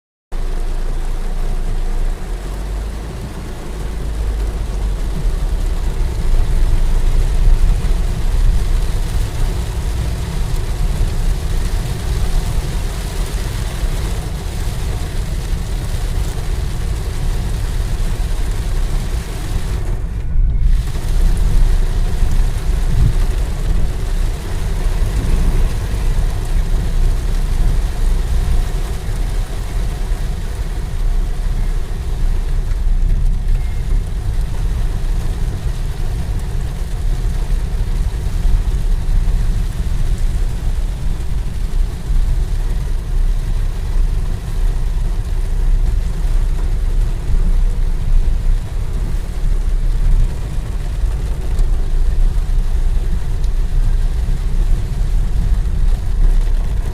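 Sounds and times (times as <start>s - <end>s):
deep rumble: 0.3s - 56.9s
heavy rain pouring: 0.3s - 56.9s.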